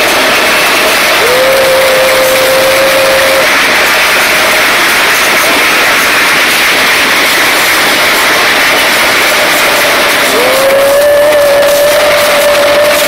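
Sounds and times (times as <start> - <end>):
crowd cheering: 0.0 - 13.0
hand-clapping: 0.0 - 13.0.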